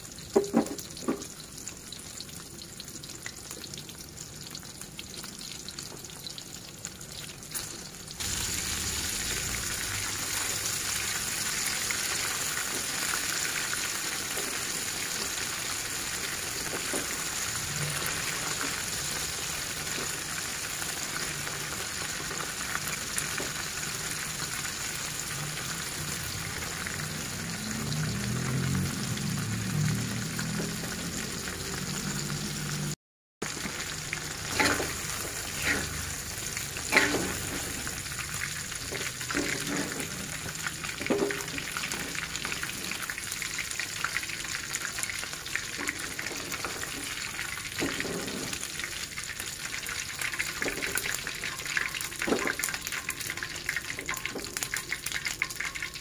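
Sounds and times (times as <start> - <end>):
shrimp sizzling in hot oil: 0.0 - 56.0.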